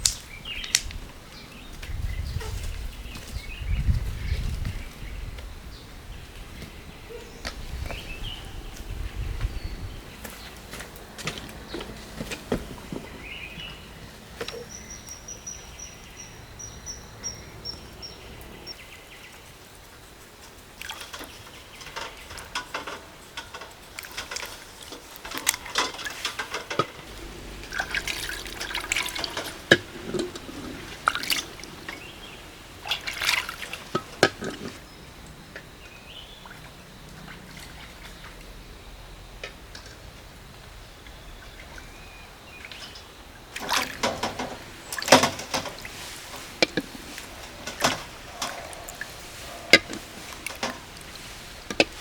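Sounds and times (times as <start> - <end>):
water splashing and trickling: 7.6 - 35.4, 36.0 - 38.8, 39.4 - 52.0.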